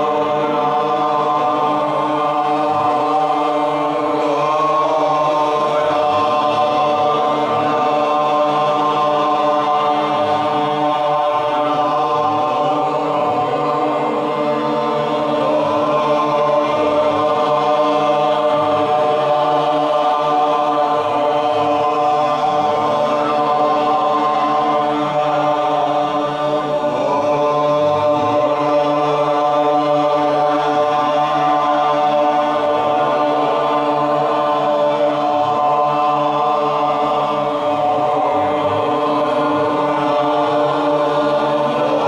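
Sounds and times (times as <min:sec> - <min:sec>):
voices chanting: 0:00.0 - 0:42.0.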